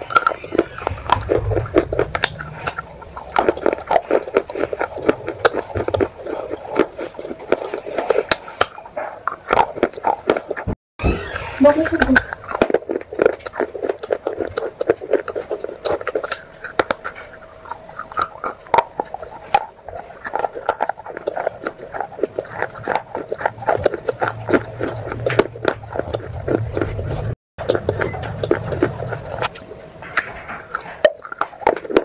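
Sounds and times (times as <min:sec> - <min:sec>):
wet mouth clicks: 0:00.0 - 0:10.7, 0:12.2 - 0:32.0
chewing and crunching: 0:00.0 - 0:32.0.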